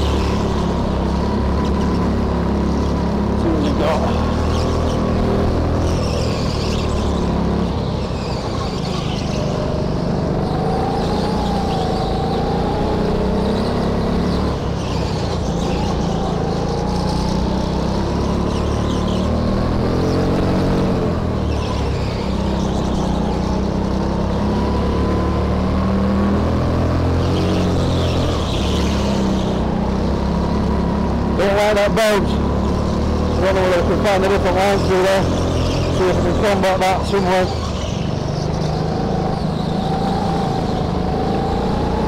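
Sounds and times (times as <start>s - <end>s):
go-kart engine running hard: 0.0s - 42.0s.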